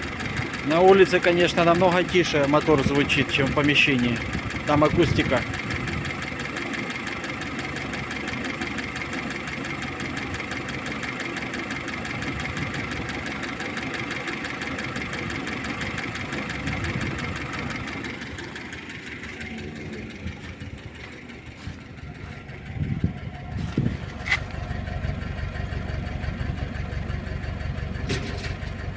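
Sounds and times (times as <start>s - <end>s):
fast even valvetrain ticking: 0.0s - 26.0s
car engine idling: 0.0s - 28.9s.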